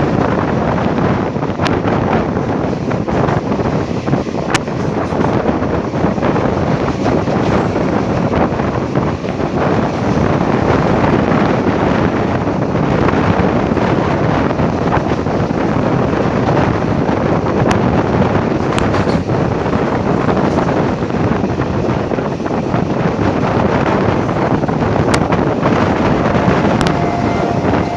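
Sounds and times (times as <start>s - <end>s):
moving train rumble: 0.0s - 27.9s
wind rushing over microphone: 0.0s - 27.9s.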